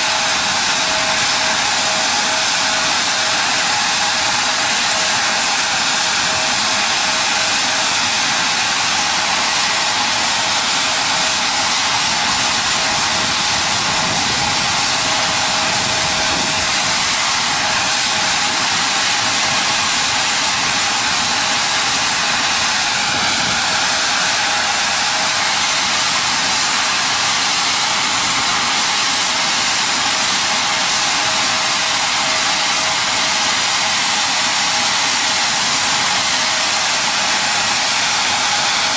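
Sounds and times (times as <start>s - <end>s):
loud rushing hiss of machinery: 0.0s - 38.9s.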